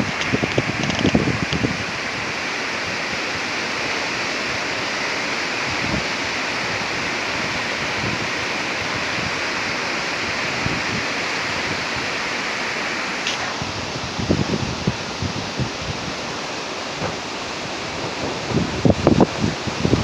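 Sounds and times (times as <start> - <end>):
heavy rain: 0.0 - 20.0
wind: 0.0 - 20.0.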